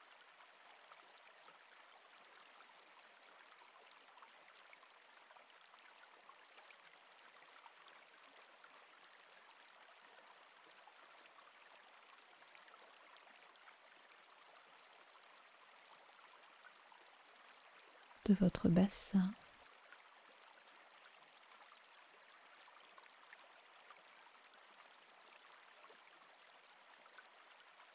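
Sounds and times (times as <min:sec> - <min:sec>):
faint trickling stream: 0:00.0 - 0:27.9.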